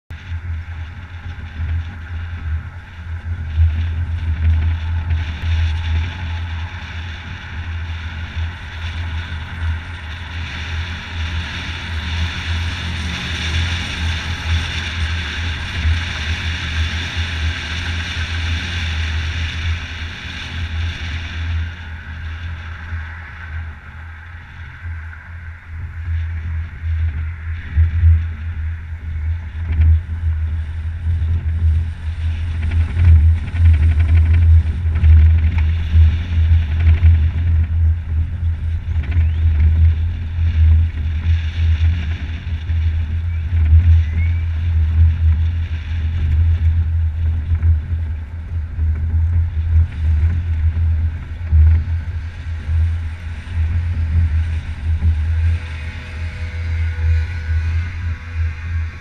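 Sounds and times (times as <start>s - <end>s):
tyre and road noise: 0.1s - 59.0s
wind buffeting microphone: 0.1s - 59.0s.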